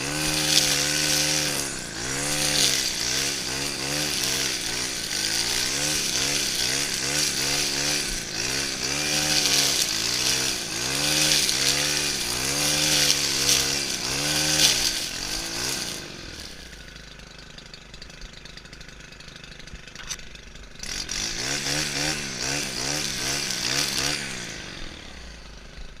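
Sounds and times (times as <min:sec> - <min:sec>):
brushcutter engine revving: 0:00.0 - 0:26.0.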